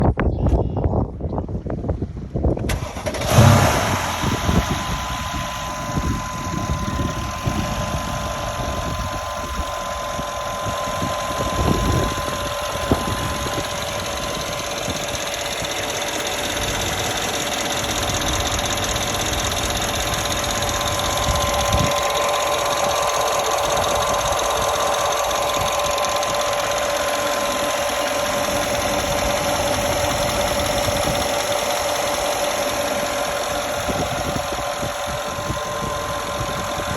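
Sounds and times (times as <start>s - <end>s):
car engine starting and idling: 2.5s - 36.9s.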